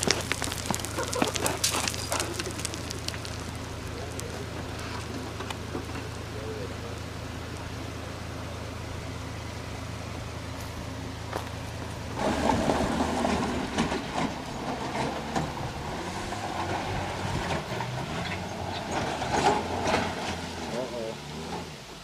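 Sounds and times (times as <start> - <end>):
pickup truck engine revving: 0.0 - 21.9.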